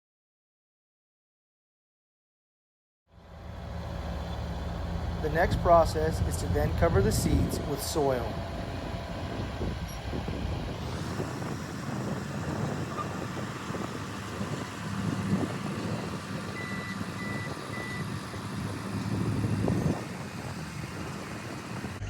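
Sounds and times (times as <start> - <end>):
farm machinery engine running: 3.1 - 22.0.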